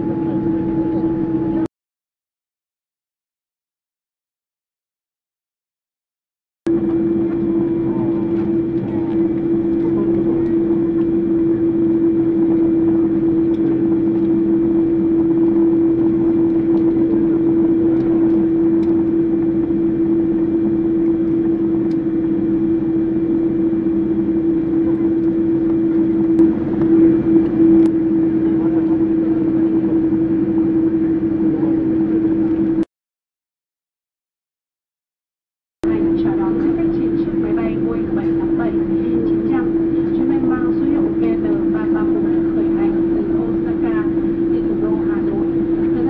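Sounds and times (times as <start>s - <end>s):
vehicle engine drone: 0.0s - 1.7s, 6.7s - 32.8s, 35.8s - 46.0s.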